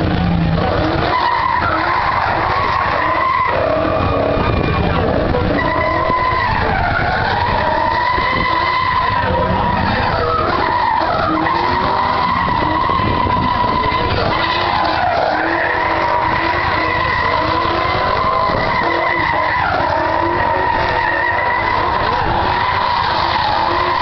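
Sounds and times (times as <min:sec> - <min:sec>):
car engine revving high: 0:00.0 - 0:24.0
tyres spinning: 0:00.0 - 0:24.0.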